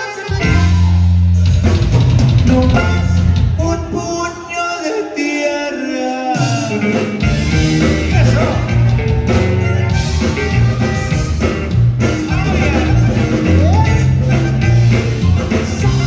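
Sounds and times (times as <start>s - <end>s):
accordion lead: 0.0s - 4.2s, 4.9s - 16.0s
electric bass: 0.0s - 4.2s, 6.4s - 16.0s
drum kit: 0.0s - 4.4s, 6.3s - 16.0s
guitar: 0.0s - 16.0s.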